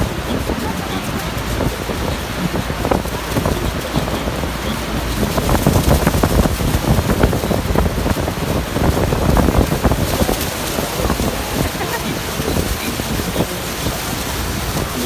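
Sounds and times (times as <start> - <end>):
churning water: 0.0 - 15.0
waterfall roar: 0.0 - 15.0
wind buffeting microphone: 0.0 - 15.0.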